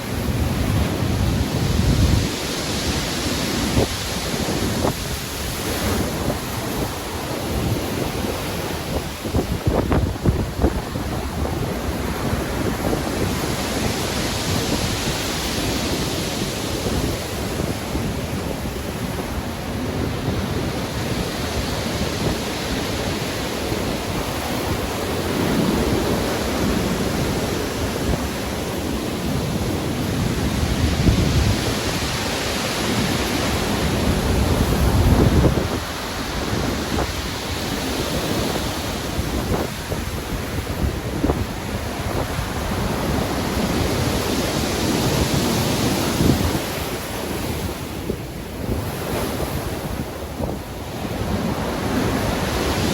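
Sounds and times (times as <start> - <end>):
heavy surf breaking: 0.0 - 52.9
wind: 0.0 - 52.9.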